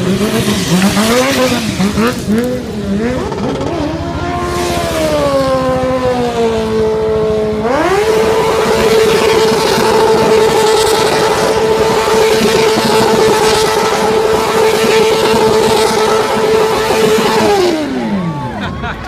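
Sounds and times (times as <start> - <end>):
motorcycle engine revving hard: 0.0 - 18.5.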